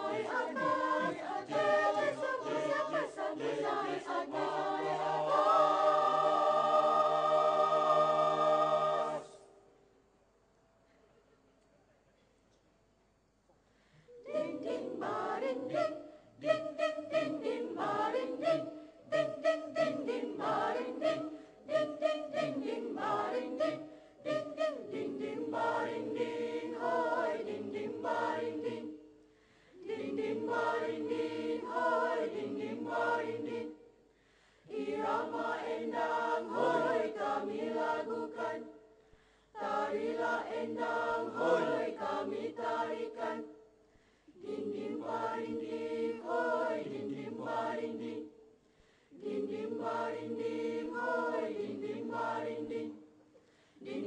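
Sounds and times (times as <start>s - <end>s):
mixed choir singing: 0.0s - 9.6s, 14.1s - 34.0s, 34.6s - 38.9s, 39.5s - 43.7s, 44.3s - 54.0s.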